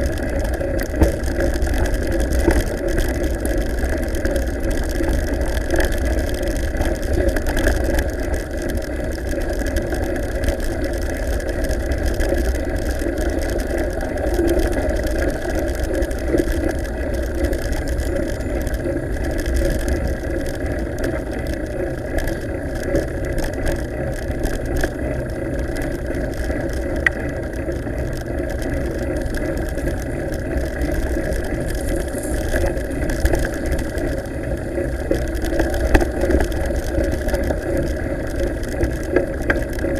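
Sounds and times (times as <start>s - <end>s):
bike tyres rolling on gravel: 0.0s - 39.9s.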